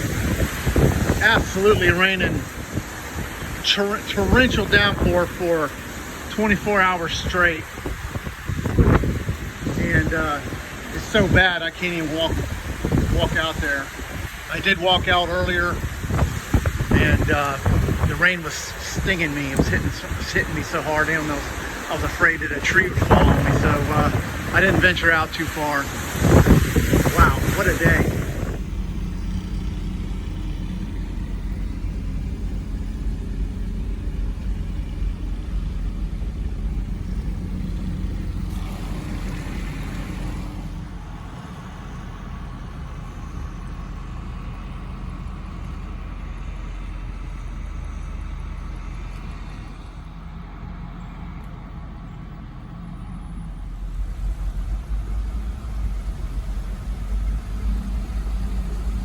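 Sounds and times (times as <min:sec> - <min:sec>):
generator engine humming: 0:00.0 - 0:59.0
heavy rain: 0:00.0 - 0:59.0
wind: 0:00.0 - 0:59.0.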